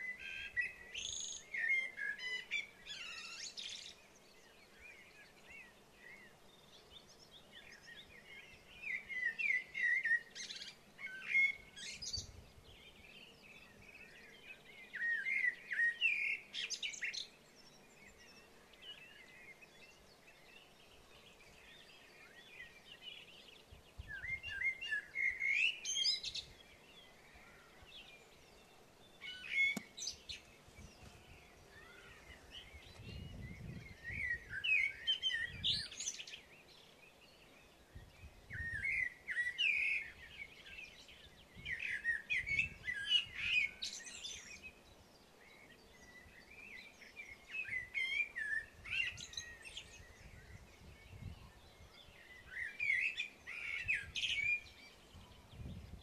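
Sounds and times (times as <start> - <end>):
songbird twittering: 0.0 - 56.0.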